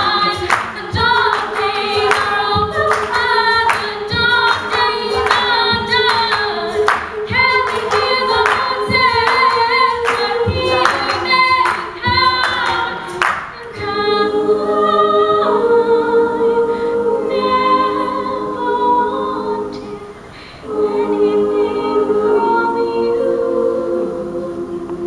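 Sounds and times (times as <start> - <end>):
female solo voice singing: 0.0 - 25.0
women's choir singing chords: 0.0 - 25.0.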